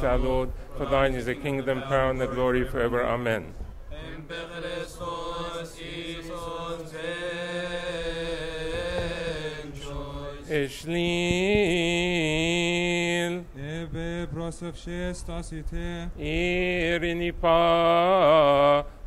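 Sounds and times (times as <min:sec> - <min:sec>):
liturgical chanting: 0:00.0 - 0:19.0.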